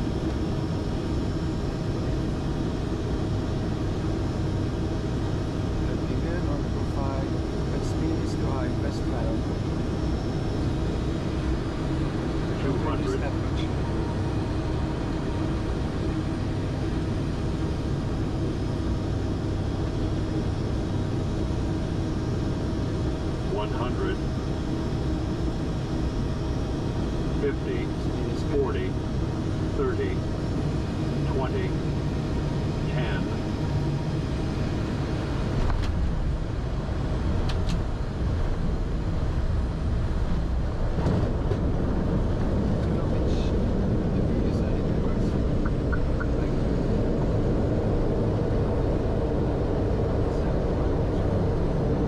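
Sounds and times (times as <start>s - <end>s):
aircraft engine drone: 0.0s - 52.0s.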